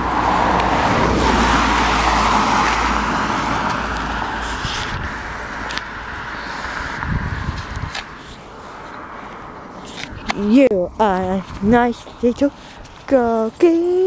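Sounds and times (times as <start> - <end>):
car passing: 0.0 - 13.1.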